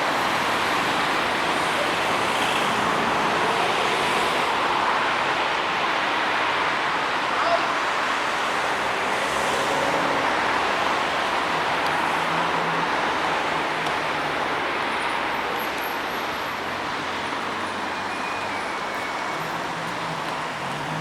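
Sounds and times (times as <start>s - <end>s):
traffic noise rushing: 0.0s - 21.0s.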